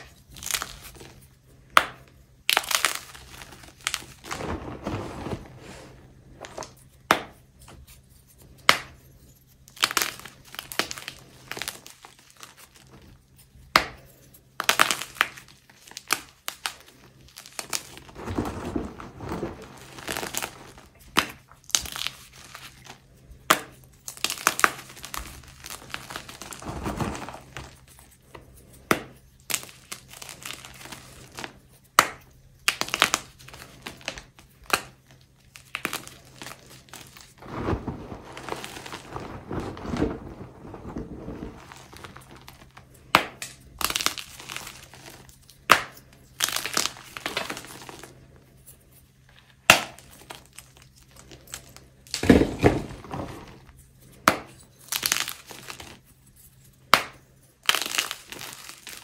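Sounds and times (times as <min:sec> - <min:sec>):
chalk crunching and crackling: 0:00.0 - 0:48.2.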